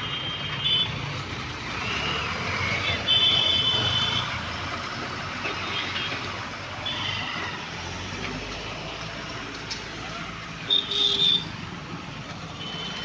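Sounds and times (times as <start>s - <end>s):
busy road traffic: 0.0s - 13.0s.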